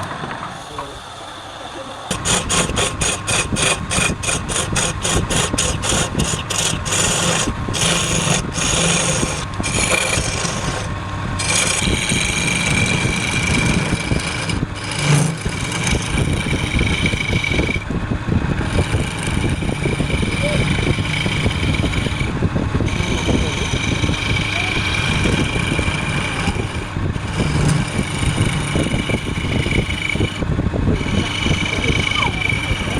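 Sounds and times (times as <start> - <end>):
turning tool cutting wood: 0.0 - 32.9
wood lathe running: 0.0 - 32.9.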